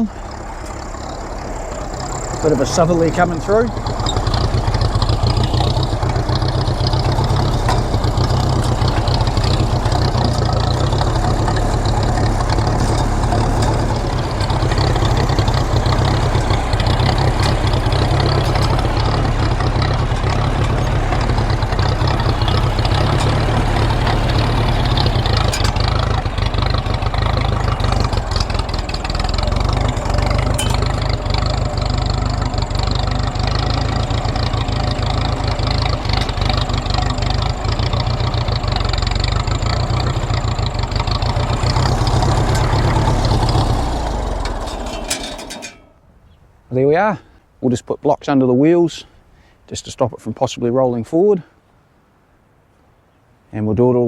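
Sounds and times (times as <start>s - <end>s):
tractor engine running: 0.0s - 46.3s.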